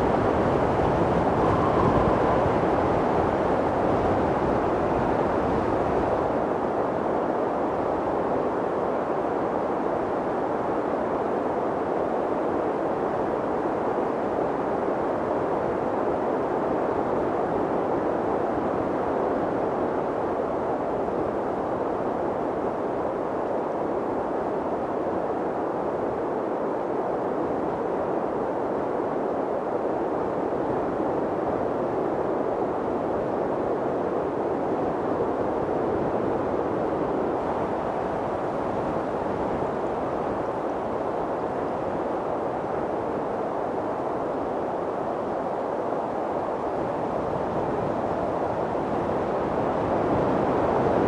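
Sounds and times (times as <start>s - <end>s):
steady wind rushing: 0.0s - 51.0s.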